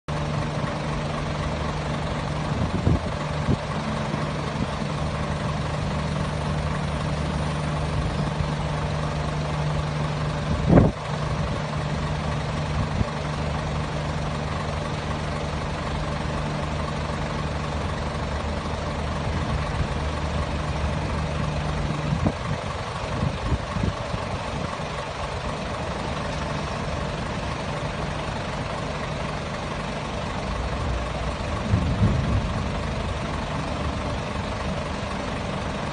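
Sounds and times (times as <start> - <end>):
vehicle engine idling: 0.1 - 35.9.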